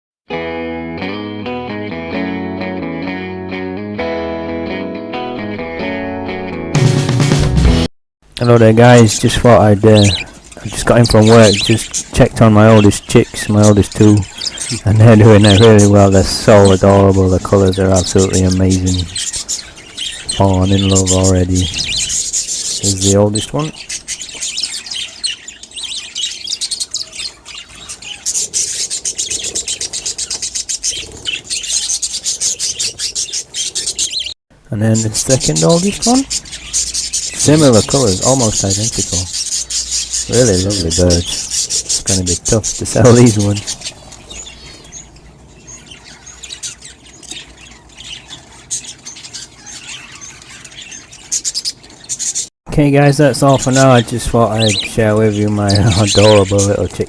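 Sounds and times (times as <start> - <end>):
bird chick chirping: 8.4 - 57.0.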